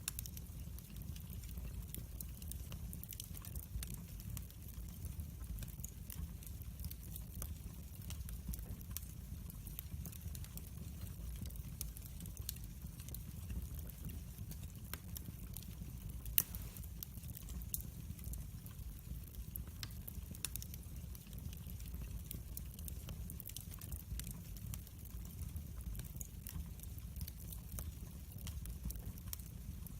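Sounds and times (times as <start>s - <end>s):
log fire crackling: 0.0s - 29.9s.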